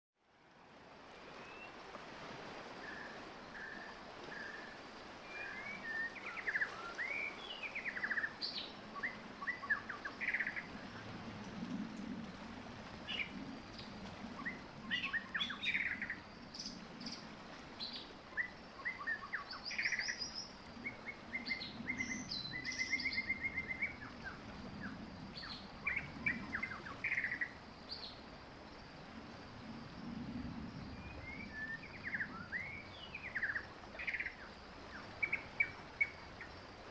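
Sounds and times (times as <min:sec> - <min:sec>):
steady low background noise: 0:00.2 - 0:36.9.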